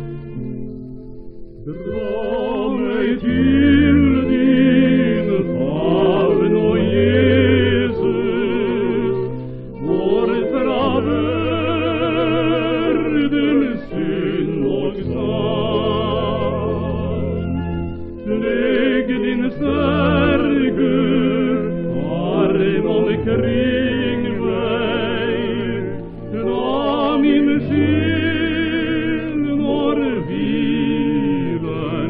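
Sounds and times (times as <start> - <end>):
two singers singing a hymn: 1.6 - 32.0.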